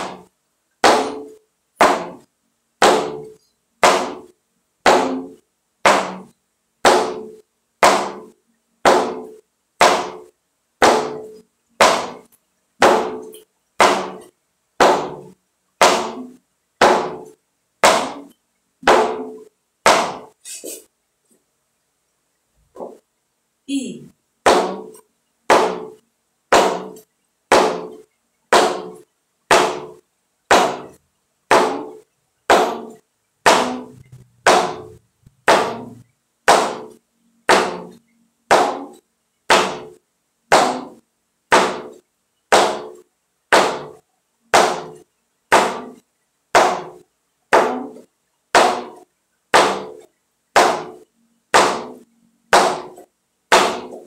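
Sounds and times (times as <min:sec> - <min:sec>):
shoe stamping on wooden board: 0:00.0 - 0:02.2, 0:02.8 - 0:20.3, 0:24.4 - 0:36.9, 0:37.5 - 0:46.0, 0:46.6 - 0:48.0, 0:48.6 - 0:50.0, 0:51.6 - 0:54.0.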